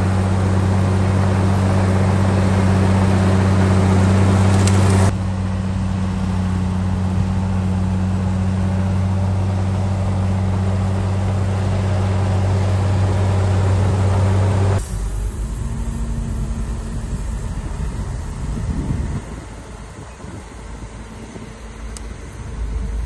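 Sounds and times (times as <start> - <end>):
heavy diesel engine running: 0.0 - 23.0
rough engine sound: 0.0 - 23.0.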